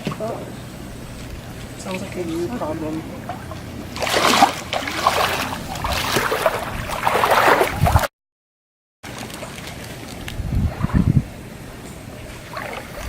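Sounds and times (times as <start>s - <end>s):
water splashing and sloshing: 0.0s - 8.1s, 9.0s - 13.0s.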